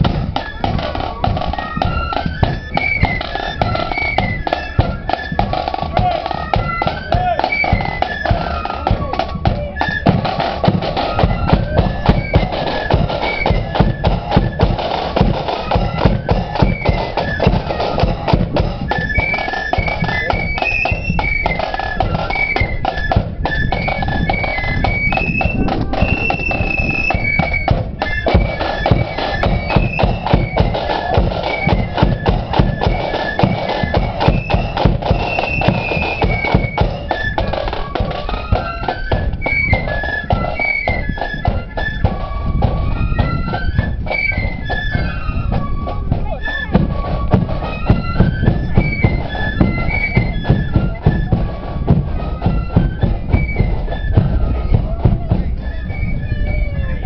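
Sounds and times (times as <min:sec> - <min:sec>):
flute band melody: 0:00.0 - 0:57.0.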